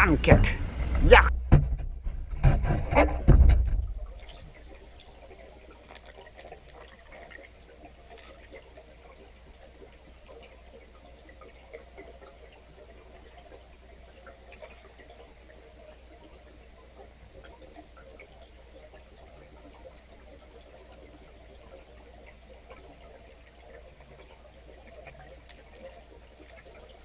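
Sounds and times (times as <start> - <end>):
faint underwater hum: 0.0 - 2.5, 3.2 - 27.0
small ticks and crackles: 4.0 - 27.0.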